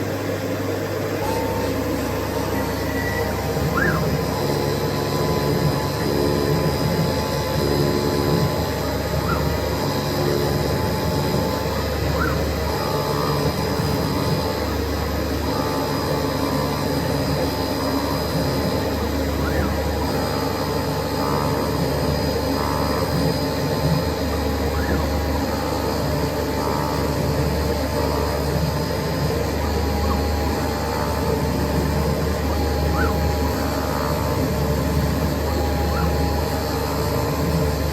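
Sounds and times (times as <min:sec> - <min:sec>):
cutting machine motor tones: 0:00.0 - 0:37.9.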